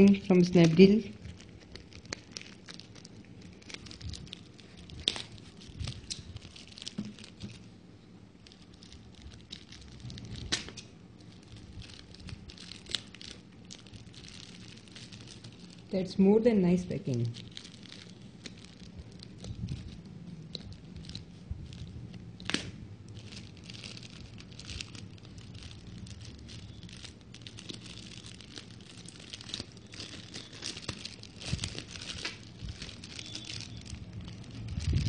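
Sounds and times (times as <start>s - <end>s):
packaging crinkling and tearing: 0.0s - 35.0s.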